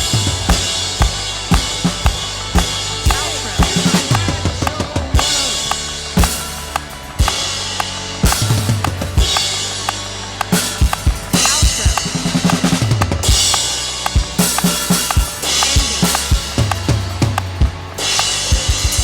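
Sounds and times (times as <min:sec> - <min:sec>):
drum kit playing steady beat: 0:00.0 - 0:19.0
sustained bass notes: 0:00.0 - 0:19.0.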